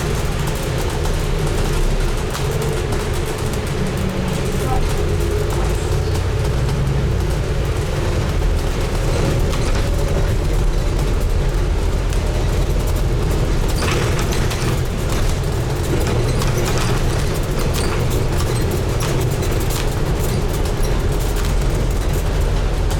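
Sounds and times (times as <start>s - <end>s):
bus body and fittings rattling: 0.0s - 22.9s
bus diesel engine rumbling: 0.0s - 22.9s.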